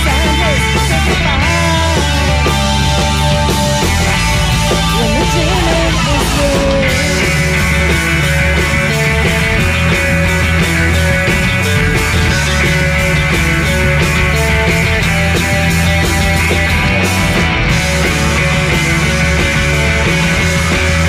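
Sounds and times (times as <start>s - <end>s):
indie pop band playing live: 0.0s - 21.0s.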